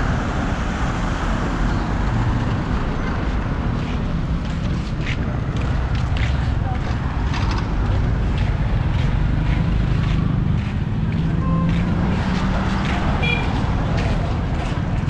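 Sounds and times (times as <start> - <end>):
vehicle engines running: 0.0 - 15.0.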